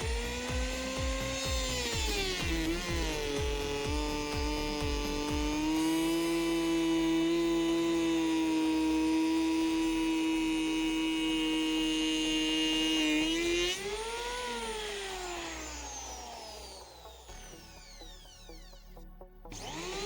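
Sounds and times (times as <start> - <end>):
electric planer motor whining: 0.0 - 18.9, 19.5 - 20.0.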